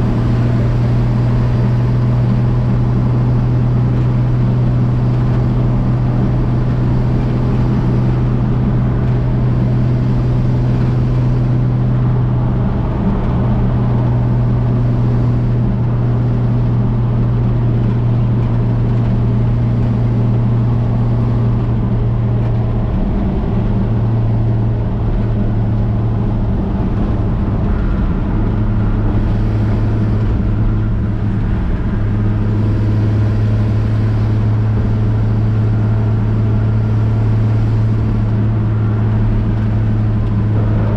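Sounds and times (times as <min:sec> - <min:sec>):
road noise: 0:00.0 - 0:40.9
truck engine droning: 0:00.0 - 0:40.9.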